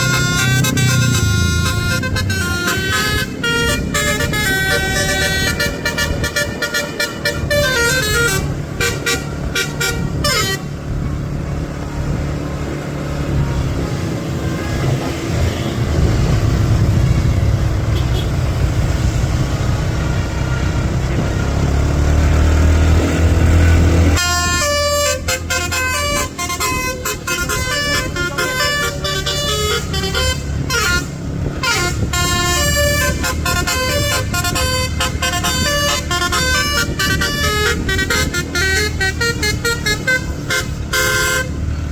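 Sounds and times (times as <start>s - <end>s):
bus engine rumble: 0.0s - 41.9s
multi-tone bus horn melody: 0.0s - 41.9s.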